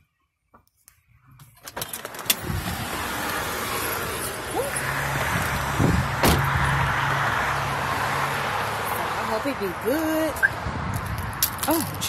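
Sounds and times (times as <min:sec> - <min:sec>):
road traffic passing: 0:01.6 - 0:12.0.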